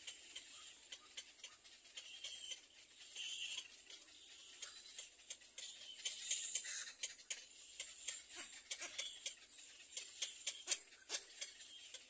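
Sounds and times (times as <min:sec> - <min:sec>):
nestlings ticking and clicking calls: 0:00.0 - 0:12.0.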